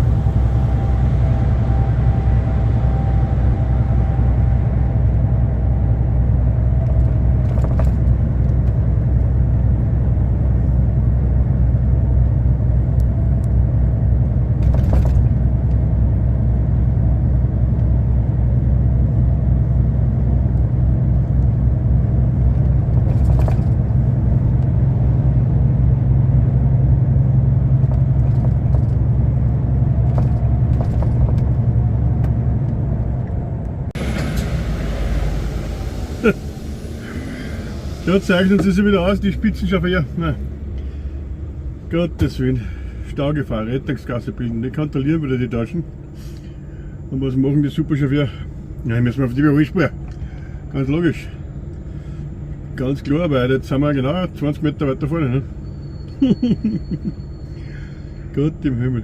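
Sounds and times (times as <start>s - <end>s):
diesel truck engine drone: 0.0s - 59.0s
road rumble: 0.0s - 59.0s.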